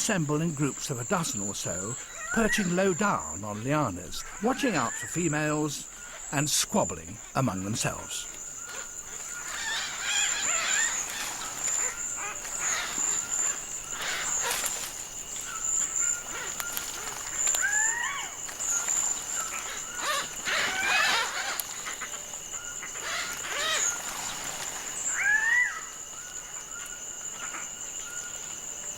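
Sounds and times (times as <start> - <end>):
birds calling: 0.0 - 28.9
high insect whine: 0.0 - 28.9.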